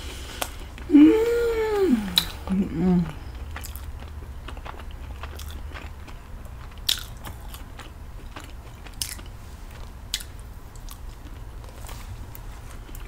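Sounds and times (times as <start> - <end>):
low hum: 0.0 - 13.0
chewing pizza crust: 2.0 - 13.0.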